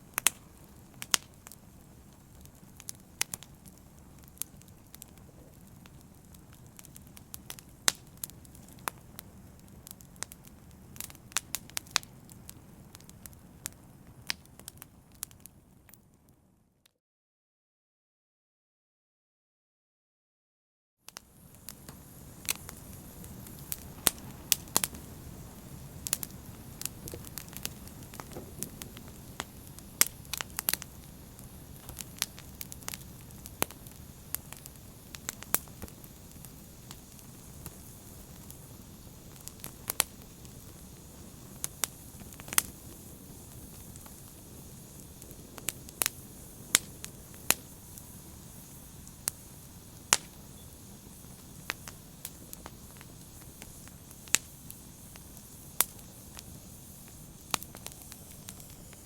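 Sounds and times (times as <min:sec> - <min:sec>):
open fire crackling: 0:00.0 - 0:16.5, 0:21.1 - 0:59.0.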